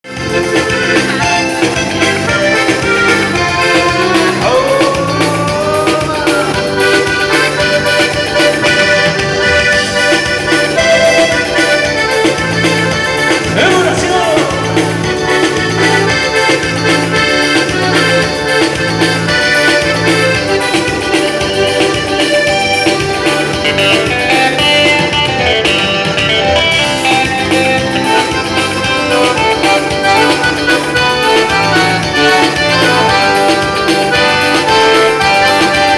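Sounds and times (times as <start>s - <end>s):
accordion dance band music: 0.0s - 35.9s
repeating bass beat: 0.2s - 35.9s.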